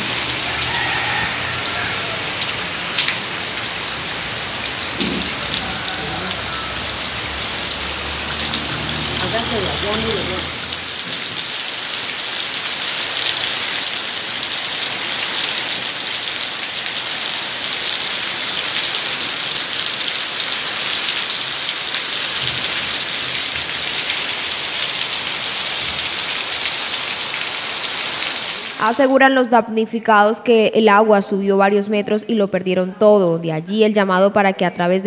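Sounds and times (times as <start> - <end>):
heavy rain: 0.0 - 29.2.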